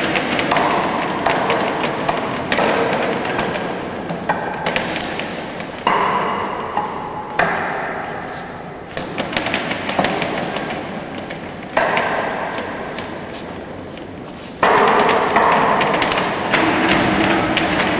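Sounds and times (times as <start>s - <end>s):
sharp wooden knocks: 0.0s - 8.2s, 8.9s - 13.3s, 14.0s - 17.9s.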